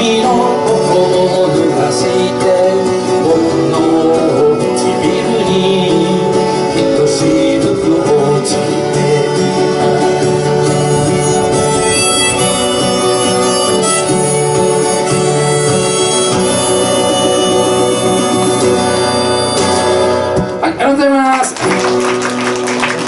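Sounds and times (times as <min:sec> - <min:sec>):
harmonica notes: 0:00.0 - 0:20.7
acoustic guitar: 0:00.0 - 0:23.0.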